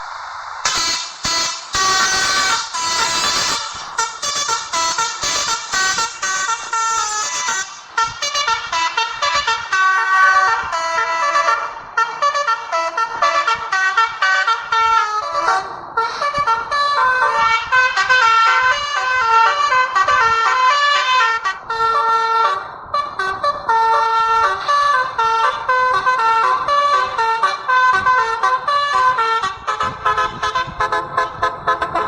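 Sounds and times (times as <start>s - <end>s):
multi-tone air horn tune: 0.6s - 32.0s.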